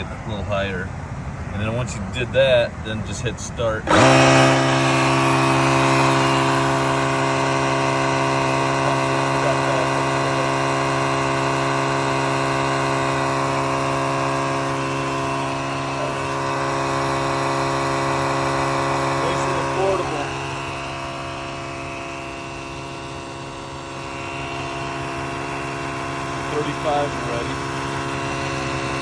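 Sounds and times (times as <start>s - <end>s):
portable tire inflator running: 0.0s - 29.0s.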